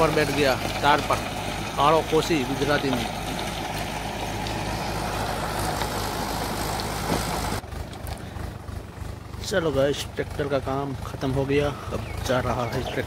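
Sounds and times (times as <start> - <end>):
rotavator tilling soil: 0.0 - 13.0
tractor engine running: 0.0 - 13.0.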